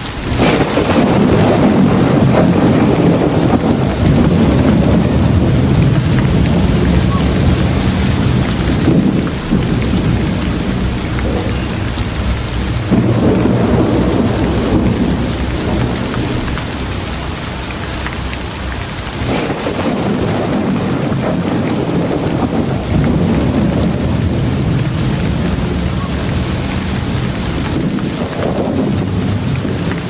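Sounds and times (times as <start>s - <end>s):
heavy rain: 0.0s - 30.0s
thunder rumbling: 0.0s - 30.0s.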